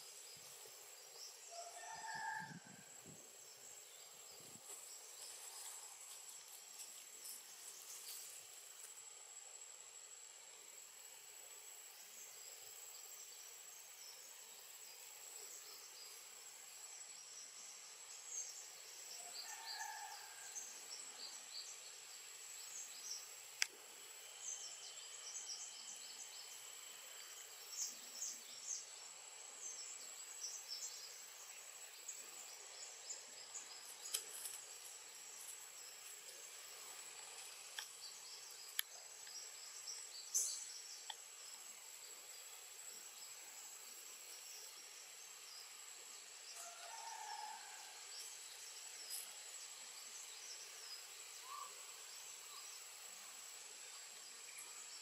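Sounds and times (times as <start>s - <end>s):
high insect whine: 0.0s - 55.0s.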